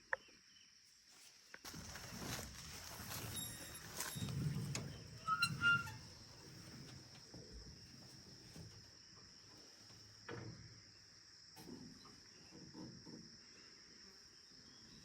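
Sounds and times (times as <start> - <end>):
insects chirring: 1.4 - 15.0.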